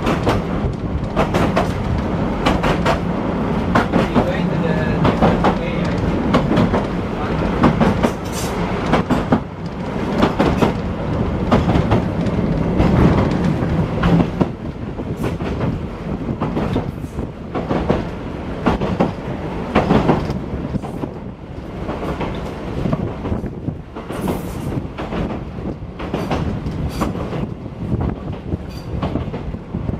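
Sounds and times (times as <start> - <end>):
wheels clicking over rail joints: 0.0 - 27.6
tram rumbling along track: 0.0 - 29.9.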